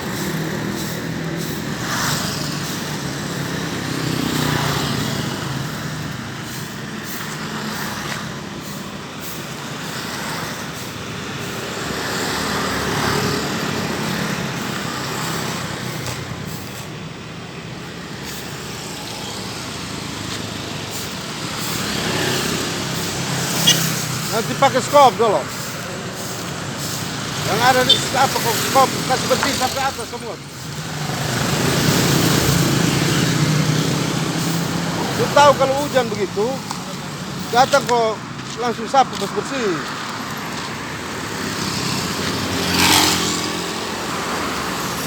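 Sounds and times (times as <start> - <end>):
road traffic passing: 0.0 - 45.0.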